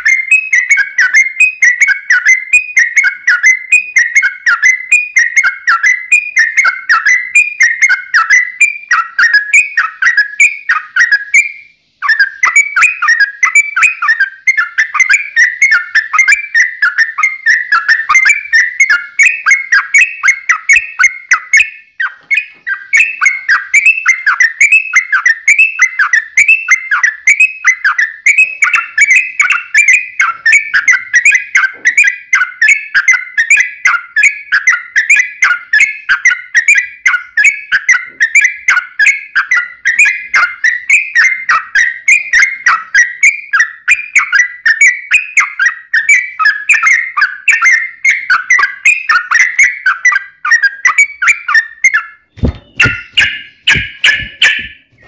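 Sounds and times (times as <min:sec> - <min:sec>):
bird singing rapid chattering: 0:00.0 - 0:55.0.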